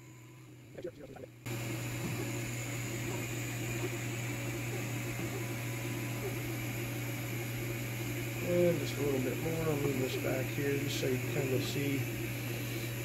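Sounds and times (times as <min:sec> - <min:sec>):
laser engraver humming: 0:00.0 - 0:13.0.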